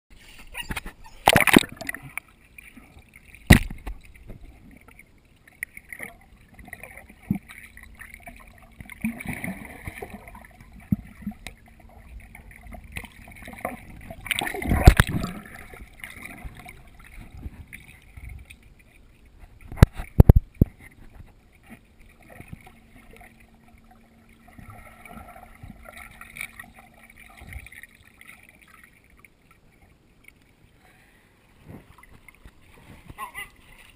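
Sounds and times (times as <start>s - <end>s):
faint steady hum: 0.1s - 33.9s
water sloshing and splashing: 0.1s - 33.9s.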